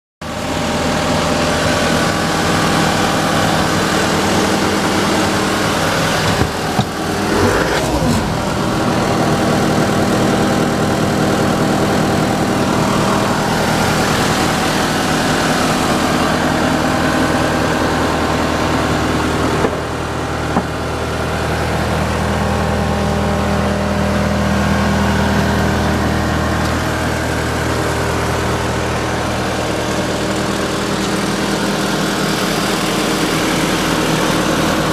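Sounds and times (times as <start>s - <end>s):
loader engine running: 0.2s - 34.9s.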